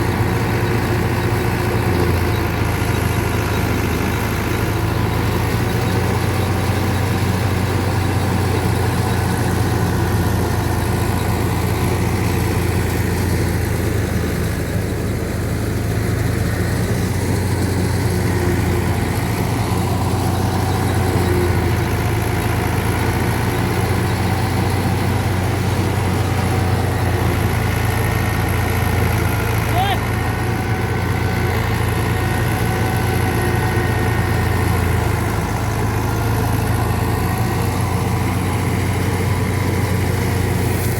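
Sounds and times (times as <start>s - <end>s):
thresher whirring: 0.0s - 40.9s
tractor diesel engine running: 0.0s - 40.9s.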